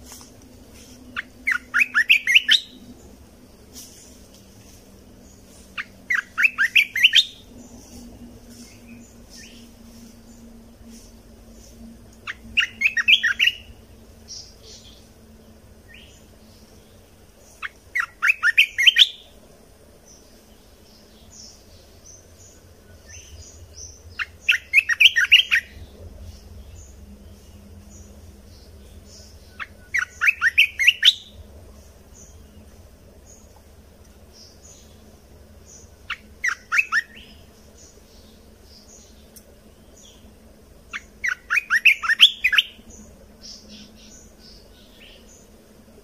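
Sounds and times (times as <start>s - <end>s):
bulbul singing: 0.0s - 19.4s, 20.0s - 45.6s
soft bird chirps: 0.0s - 19.4s, 20.0s - 45.6s.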